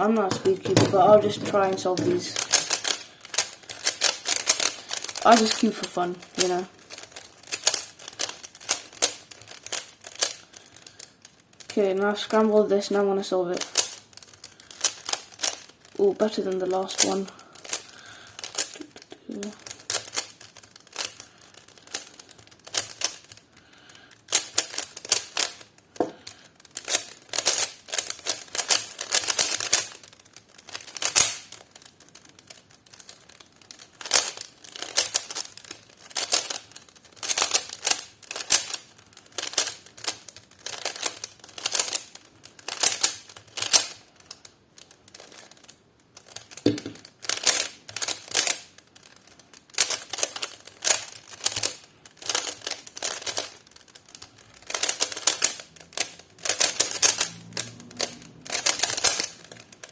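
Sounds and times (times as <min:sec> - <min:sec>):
puzzle cube plastic clicking: 0:00.0 - 0:59.9.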